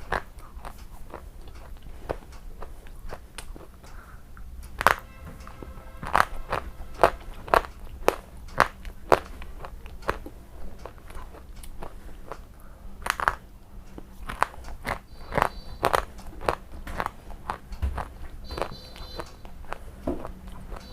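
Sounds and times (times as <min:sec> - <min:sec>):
crunchy food being chewed: 0:00.0 - 0:20.9.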